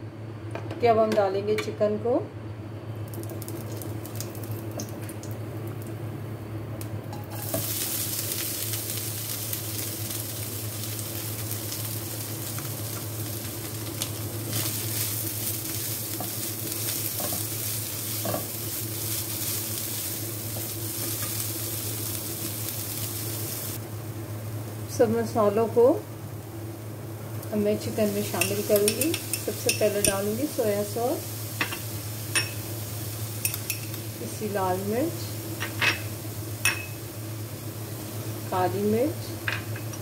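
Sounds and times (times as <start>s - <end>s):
low steady hum: 0.0s - 40.0s
chicken sizzling in oil: 7.2s - 40.0s.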